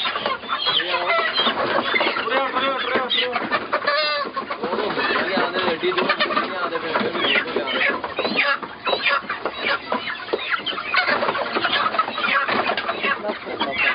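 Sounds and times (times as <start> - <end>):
chickens clucking and squawking: 0.0 - 13.9.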